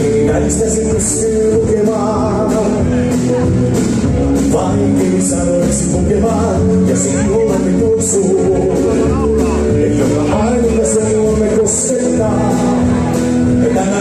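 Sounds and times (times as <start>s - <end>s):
man singing into a microphone: 0.0s - 3.7s, 4.4s - 14.0s
live rock and roll band: 0.0s - 14.0s.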